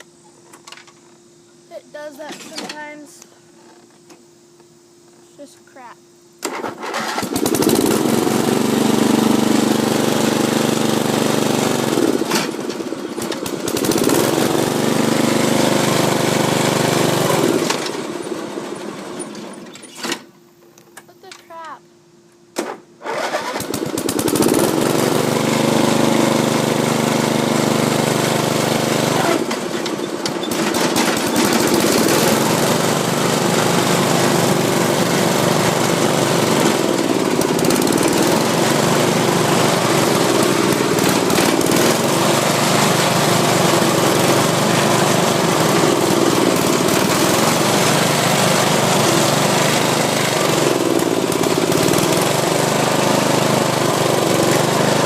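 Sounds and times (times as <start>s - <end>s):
riding mower engine running: 5.8s - 55.0s.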